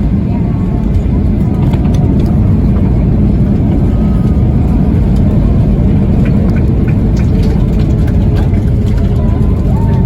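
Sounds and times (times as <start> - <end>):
aircraft engine roar: 0.0 - 10.0
wheel and runway noise: 0.0 - 10.0.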